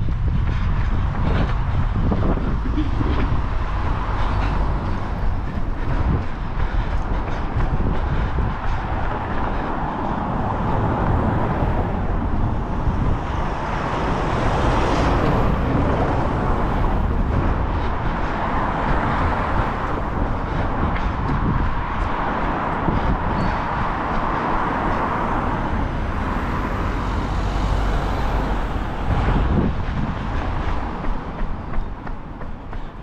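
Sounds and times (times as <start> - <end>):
traffic rush: 0.0 - 33.0.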